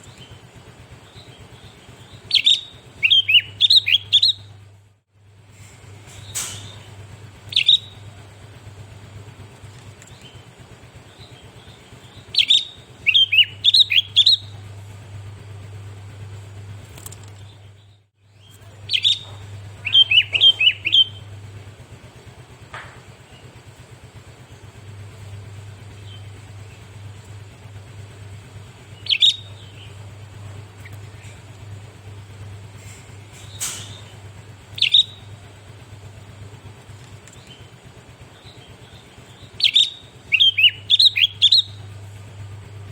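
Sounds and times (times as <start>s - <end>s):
bulbul chirping: 0.0s - 4.6s, 6.0s - 42.8s
steady low hum: 0.0s - 42.9s.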